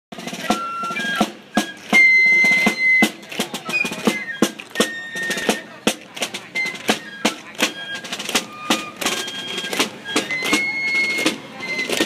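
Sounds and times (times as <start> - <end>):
fife melody: 0.1 - 12.0
snare drum beats: 0.1 - 12.0.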